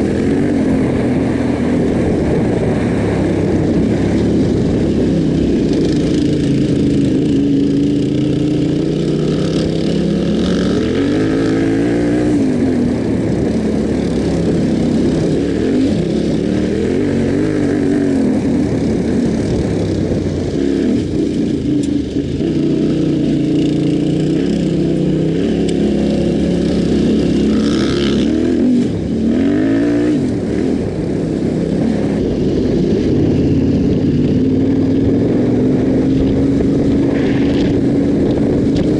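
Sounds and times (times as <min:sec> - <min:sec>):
motorcycle engine running: 0:00.0 - 0:38.9
wind rush and tyre noise: 0:00.0 - 0:38.9.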